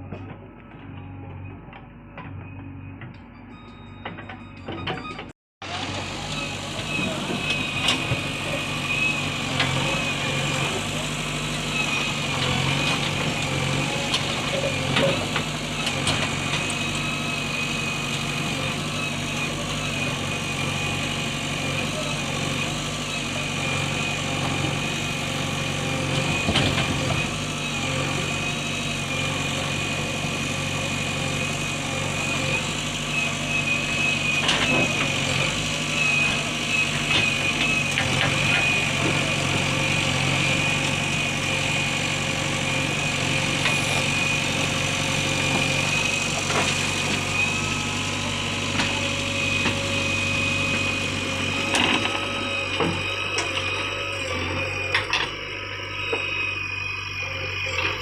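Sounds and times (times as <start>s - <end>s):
diesel engine idling: 5.6s - 58.0s.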